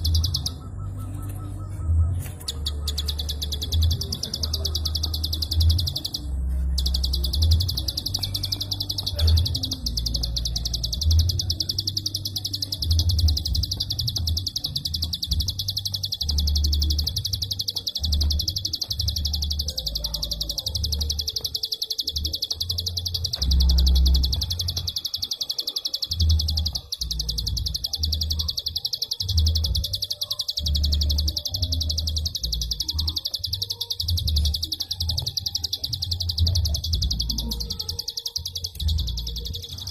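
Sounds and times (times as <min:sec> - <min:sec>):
bird high clicking call: 0:02.2 - 0:39.9.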